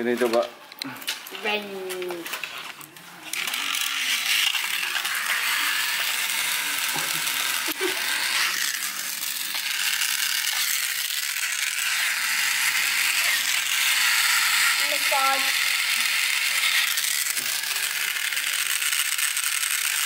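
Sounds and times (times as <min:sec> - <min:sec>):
toy train motor whirring: 0:01.3 - 0:20.0.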